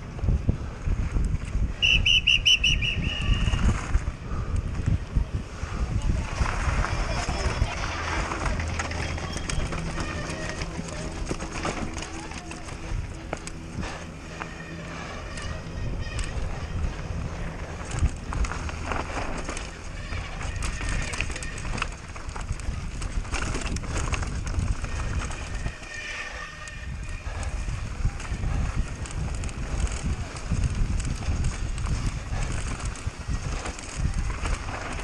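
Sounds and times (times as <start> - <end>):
bike tyres rumbling on trail: 0.0 - 35.0
bike frame and chain rattling: 0.1 - 35.0.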